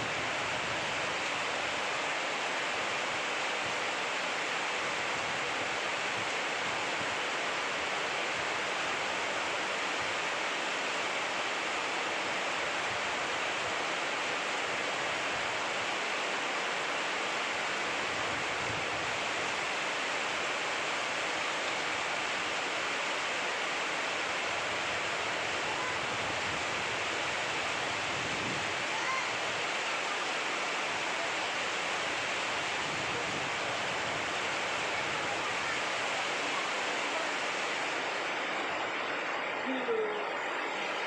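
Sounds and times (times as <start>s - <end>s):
rain falling steadily: 0.0s - 41.0s.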